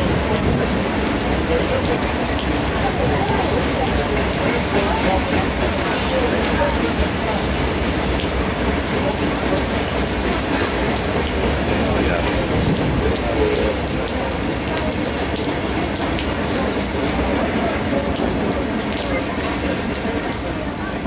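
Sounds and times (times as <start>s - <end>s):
rain falling on pavement: 0.0s - 21.0s
raindrops hitting close by: 0.0s - 21.0s.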